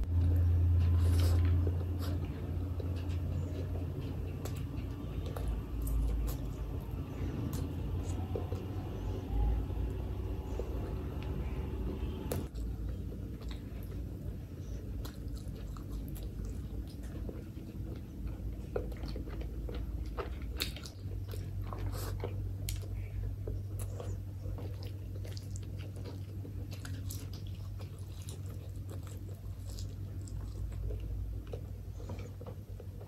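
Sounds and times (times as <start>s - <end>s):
wet chewing: 0.0s - 33.0s.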